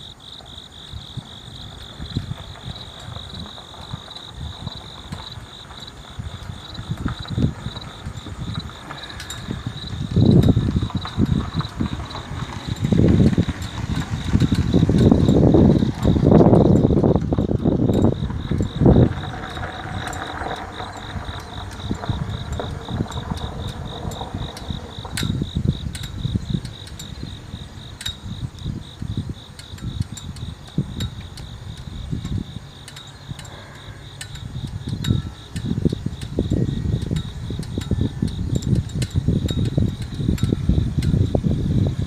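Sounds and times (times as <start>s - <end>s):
fast-pulsing insect chirp: 0.0s - 42.0s
wind buffeting microphone: 0.0s - 42.0s
sharp clicks: 1.6s - 41.4s.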